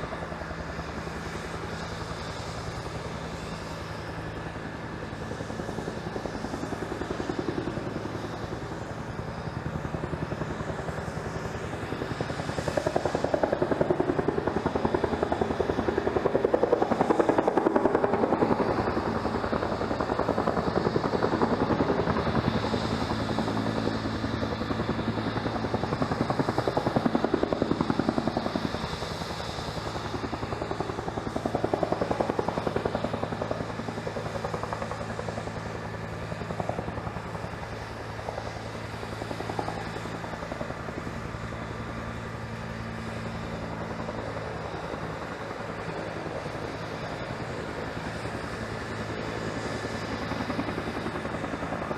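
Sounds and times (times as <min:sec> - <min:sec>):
helicopter rotor blades beating: 0:00.0 - 0:51.9.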